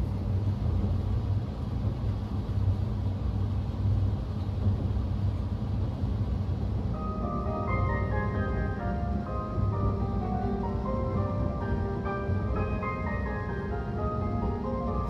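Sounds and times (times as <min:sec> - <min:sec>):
train interior low rumble: 0:00.0 - 0:15.0.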